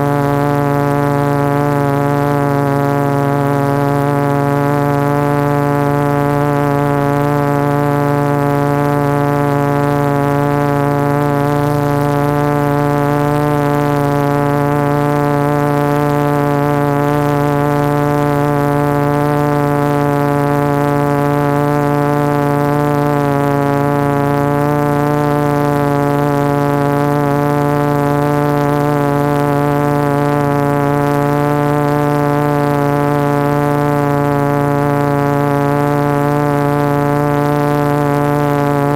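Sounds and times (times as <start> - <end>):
drone propellers humming: 0.0 - 38.9.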